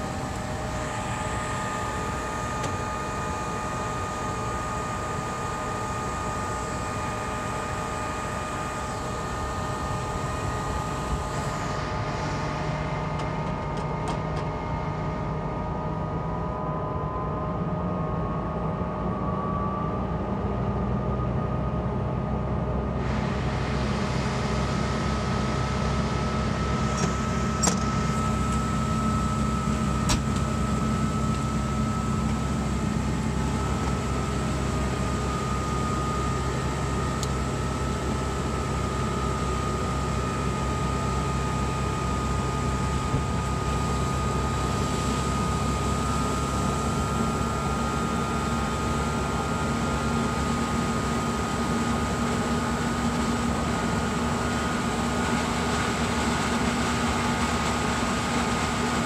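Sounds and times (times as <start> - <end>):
diesel engine drone: 0.0 - 59.0
fire pump whine: 0.0 - 59.0.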